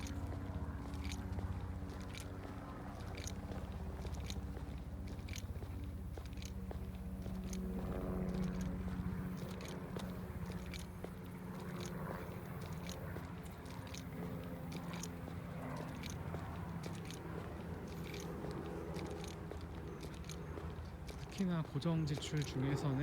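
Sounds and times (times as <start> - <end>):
steady low hum: 0.0 - 23.0
sharp clicks and crackles: 0.8 - 21.5.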